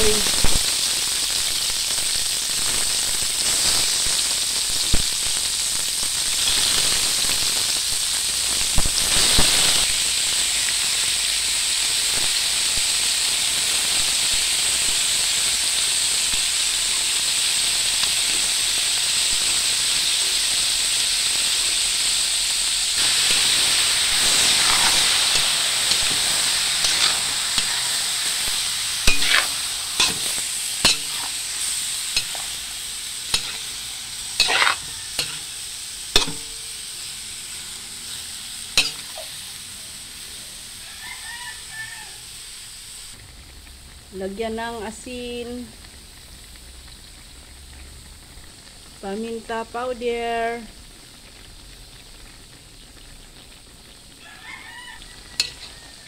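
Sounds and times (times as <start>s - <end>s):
meat sizzling in a wok: 0.0s - 56.0s.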